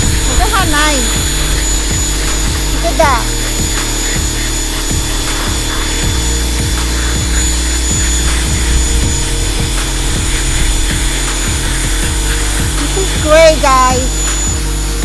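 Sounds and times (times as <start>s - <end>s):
pressure washer humming: 0.0s - 15.0s
water jet hissing on stone: 0.0s - 15.0s.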